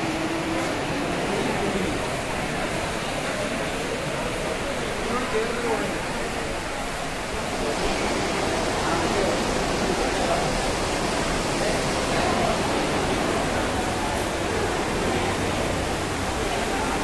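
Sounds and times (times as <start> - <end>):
heavy rain pouring: 0.0 - 17.0
murmur of voices: 0.0 - 17.0.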